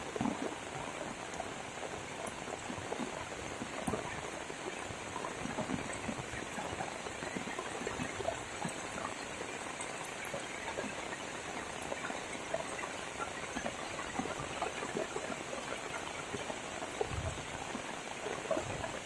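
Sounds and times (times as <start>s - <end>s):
heavy rain splashing in puddles: 0.0s - 19.0s.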